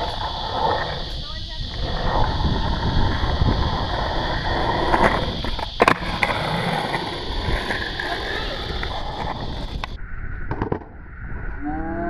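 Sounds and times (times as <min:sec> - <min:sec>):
skateboard clacking: 0:00.0 - 0:10.8
skateboard wheels rolling on concrete: 0:00.0 - 0:11.6.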